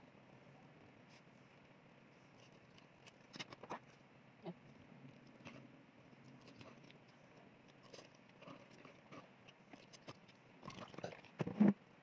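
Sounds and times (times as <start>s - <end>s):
quiet chewing: 1.1s - 11.4s.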